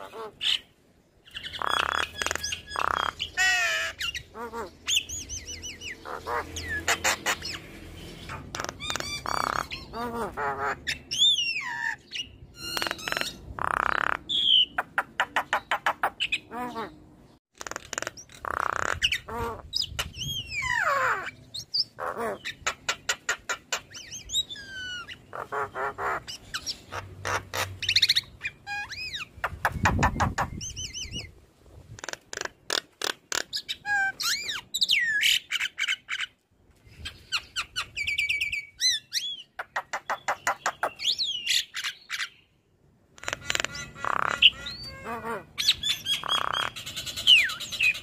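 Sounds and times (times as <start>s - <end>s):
myna bird singing: 0.0s - 31.3s, 33.4s - 42.6s, 43.2s - 48.0s.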